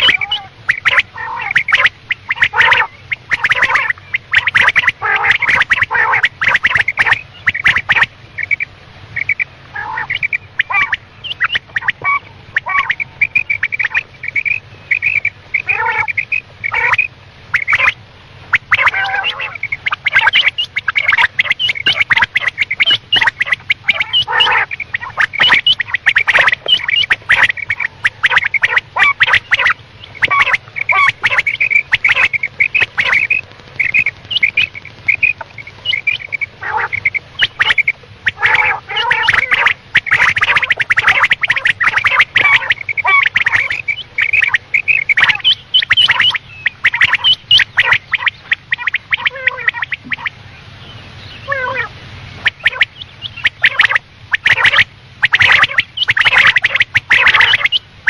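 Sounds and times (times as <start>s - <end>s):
quail chattering calls: 0.0s - 58.0s.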